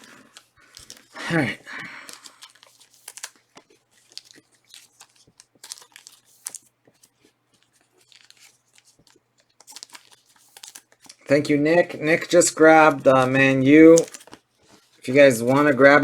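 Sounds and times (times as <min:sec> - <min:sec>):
trading cards and wrappers rustling: 0:00.0 - 0:16.0.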